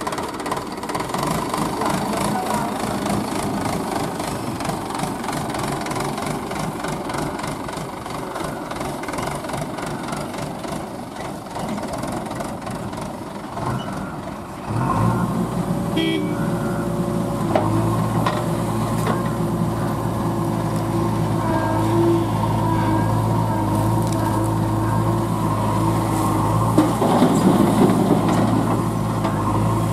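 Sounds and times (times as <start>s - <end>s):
backhoe engine low drone: 0.0s - 29.9s
tractor diesel engine clattering: 0.0s - 29.9s.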